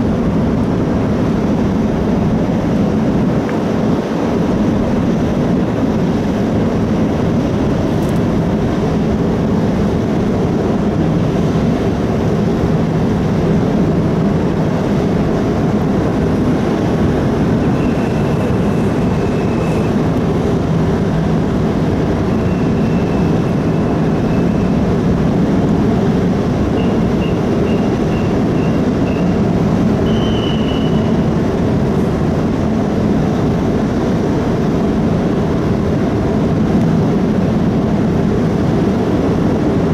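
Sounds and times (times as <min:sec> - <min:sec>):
ferry engines rumbling: 0:00.0 - 0:39.9.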